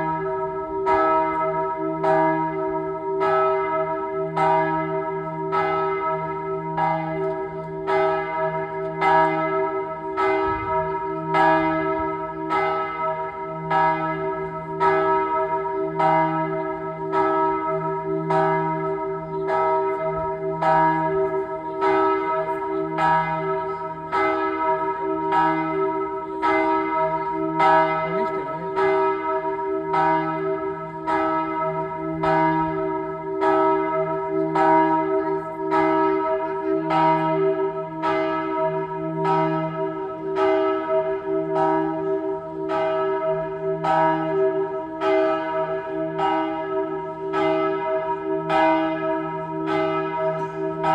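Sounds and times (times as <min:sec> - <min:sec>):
church bells pealing: 0:00.0 - 0:50.9.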